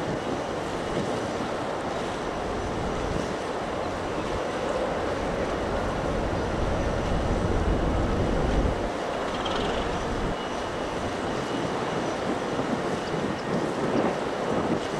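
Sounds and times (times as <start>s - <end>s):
steady rushing noise: 0.0s - 14.9s
wind buffeting microphone: 0.0s - 14.9s.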